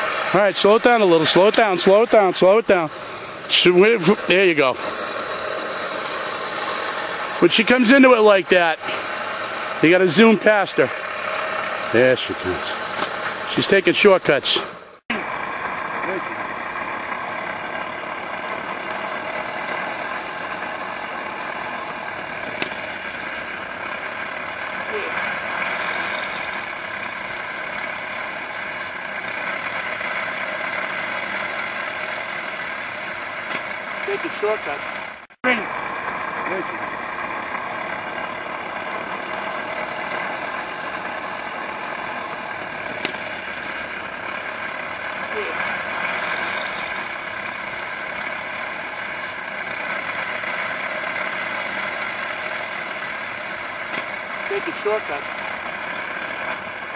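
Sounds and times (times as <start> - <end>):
lure machine motor running: 0.0 - 56.9.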